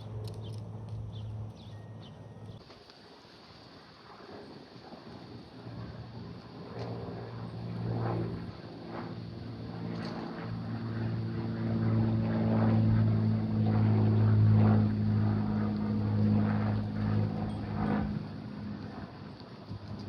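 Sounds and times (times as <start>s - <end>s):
propeller airplane flying over: 0.0s - 20.0s.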